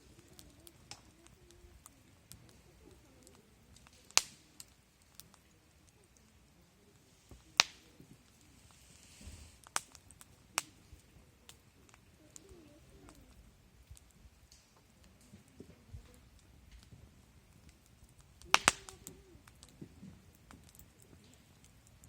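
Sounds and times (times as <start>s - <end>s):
campfire crackling and popping: 0.0s - 22.0s
fire hissing: 0.0s - 22.0s.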